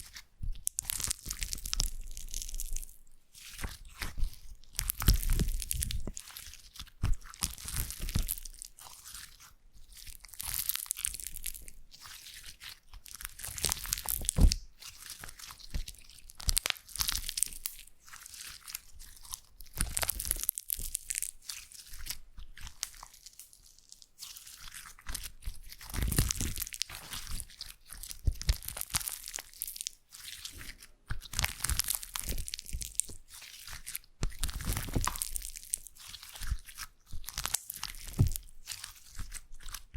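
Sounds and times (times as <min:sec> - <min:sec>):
slime squelching by hand: 0:00.0 - 0:39.9.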